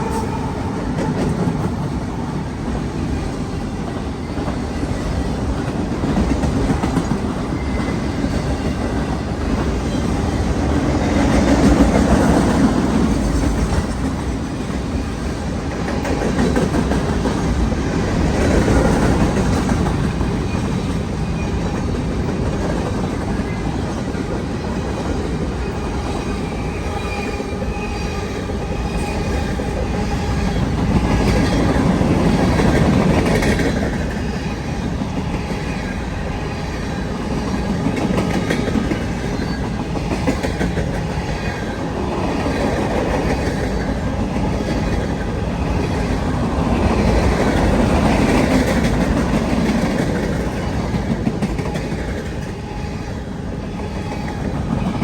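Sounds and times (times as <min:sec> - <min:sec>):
train wheels clacking: 0:00.0 - 0:55.0.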